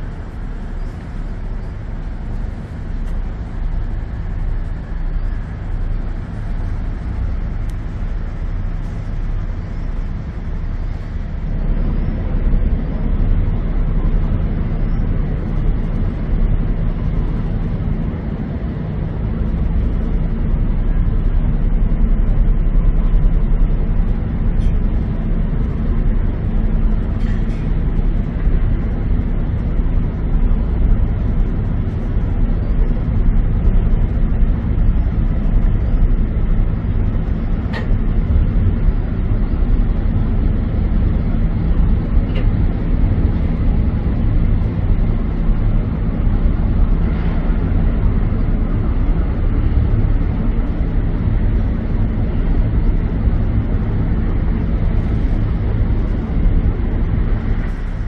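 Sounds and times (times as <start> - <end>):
ferry engine rumble: 0.0 - 58.0.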